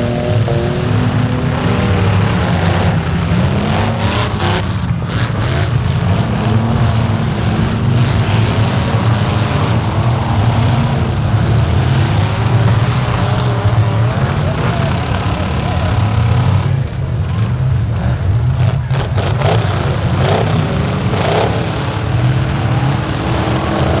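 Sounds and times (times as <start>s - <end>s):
truck engines revving: 0.0s - 24.0s.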